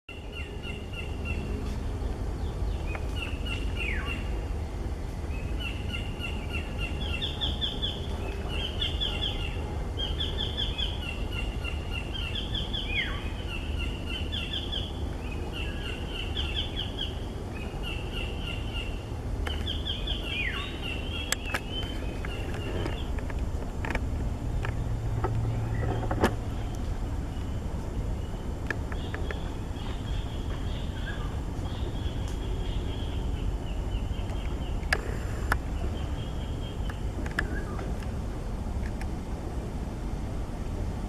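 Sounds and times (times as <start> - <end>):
bird singing: 0.1 - 4.6, 5.3 - 37.9.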